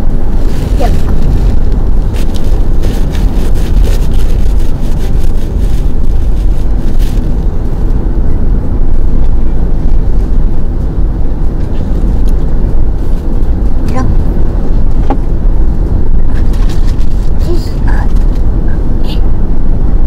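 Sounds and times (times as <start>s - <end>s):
road and wind noise in car: 0.0s - 20.0s.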